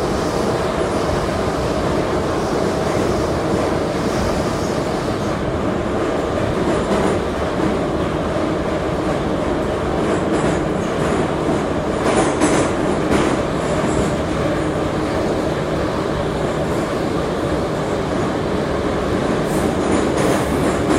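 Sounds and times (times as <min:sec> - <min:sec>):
train wheels rumbling: 0:00.0 - 0:20.9
rail joint clacks: 0:01.8 - 0:18.4, 0:19.0 - 0:20.9.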